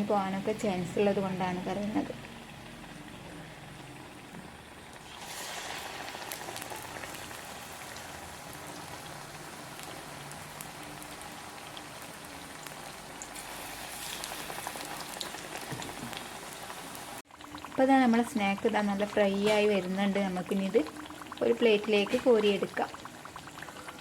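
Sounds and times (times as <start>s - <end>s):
potato slices deep-frying in oil: 0.0s - 24.0s.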